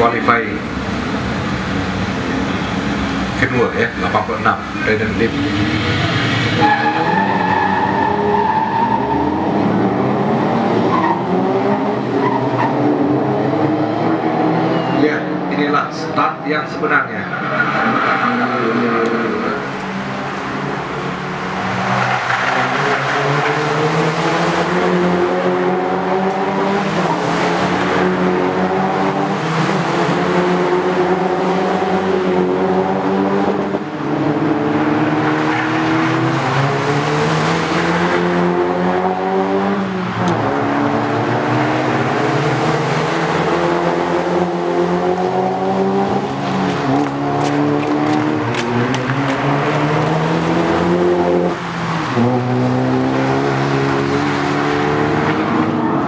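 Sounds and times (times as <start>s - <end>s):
racecar engines revving: 0.0s - 56.0s.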